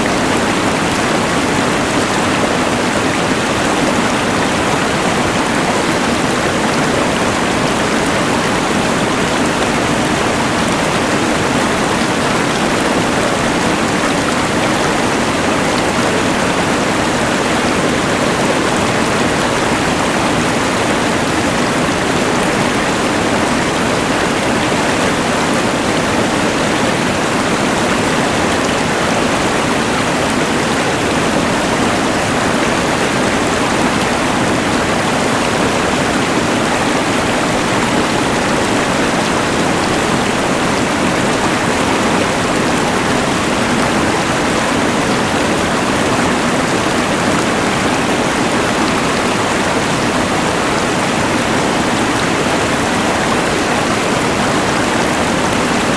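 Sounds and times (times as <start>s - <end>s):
mountain river rushing: 0.0s - 55.9s.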